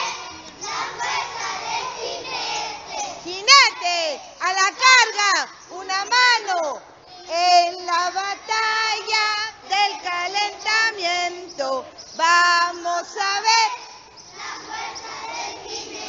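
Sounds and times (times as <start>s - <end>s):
children singing together: 0.0s - 3.9s, 7.0s - 16.0s
children's voices: 0.0s - 16.0s.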